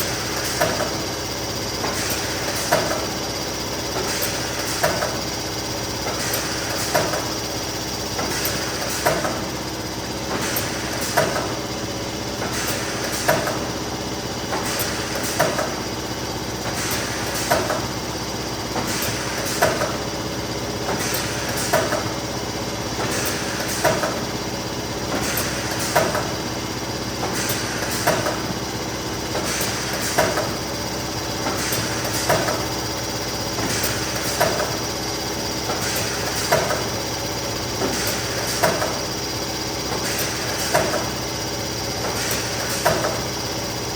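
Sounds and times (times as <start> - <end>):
laminating machine humming: 0.0 - 43.9.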